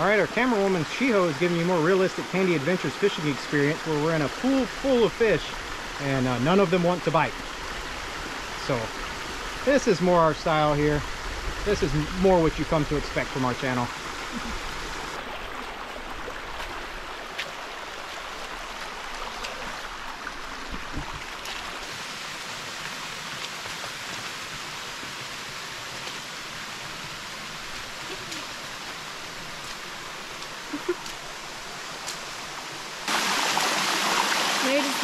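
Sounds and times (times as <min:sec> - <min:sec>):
small waterfall spilling: 0:00.0 - 0:35.0
stream running over rocks: 0:00.0 - 0:35.0.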